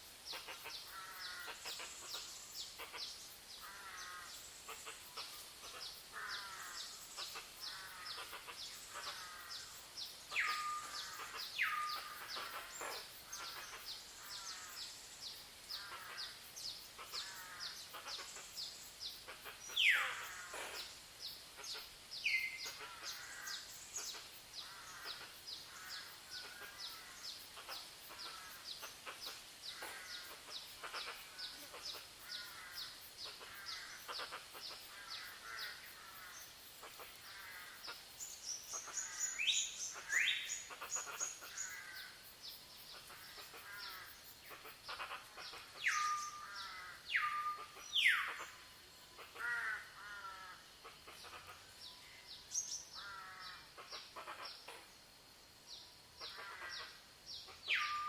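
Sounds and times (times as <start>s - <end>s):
birds chirping: 0.3s - 54.8s.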